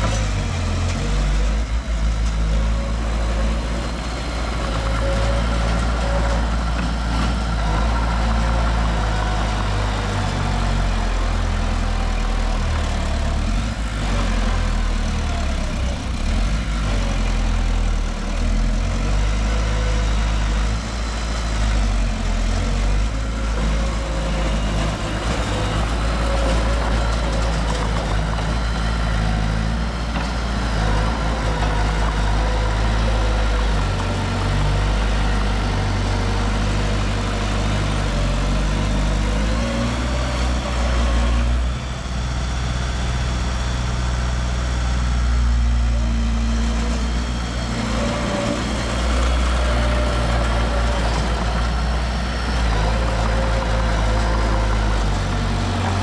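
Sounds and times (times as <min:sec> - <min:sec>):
diesel engine deep rumble: 0:00.0 - 0:56.0.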